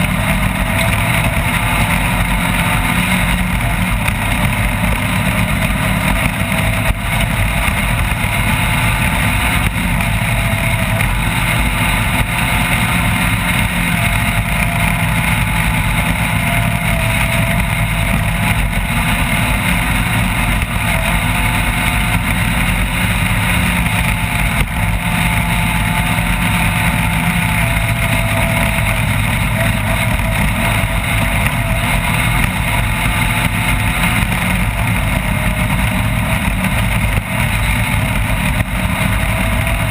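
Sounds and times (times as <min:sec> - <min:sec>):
constant rush of noise: 0:00.0 - 0:39.9
race vehicle engine running: 0:00.0 - 0:39.9.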